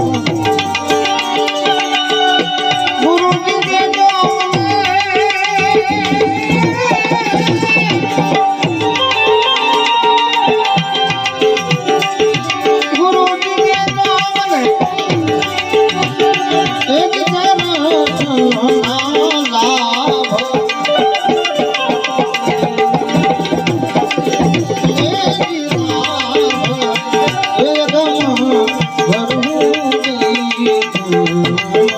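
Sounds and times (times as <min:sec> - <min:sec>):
fast tabla playing: 0:00.0 - 0:31.9
steady held notes: 0:00.0 - 0:31.9
wavering instrumental melody: 0:00.0 - 0:31.9.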